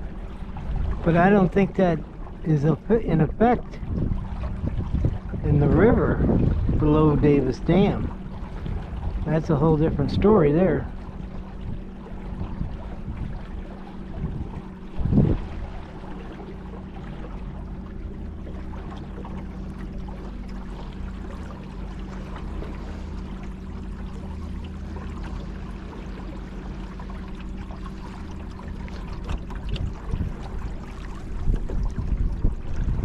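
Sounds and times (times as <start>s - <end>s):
electric boat motor humming: 0.0s - 33.0s
water washing along hull: 0.0s - 33.0s.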